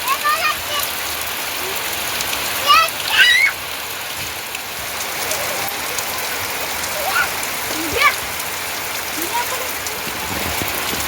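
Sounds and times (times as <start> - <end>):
drips ticking: 0.0 - 11.0
steady rain hiss: 0.0 - 11.0.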